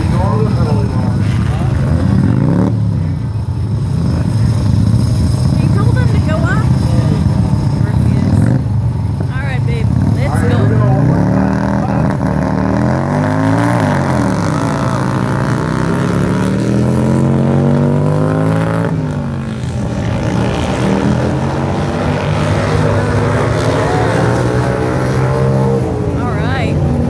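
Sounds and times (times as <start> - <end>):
motorcycle engines racing: 0.0 - 27.0.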